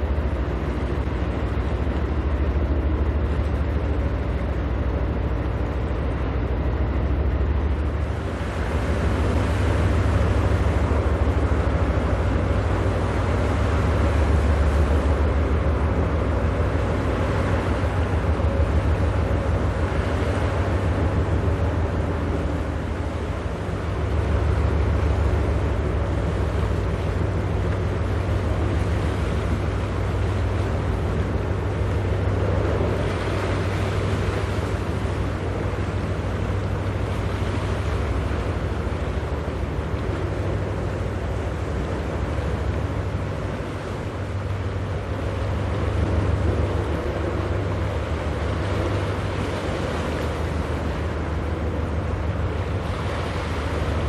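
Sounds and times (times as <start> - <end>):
ship diesel engine drone: 0.0 - 54.0
water wash: 0.0 - 54.0.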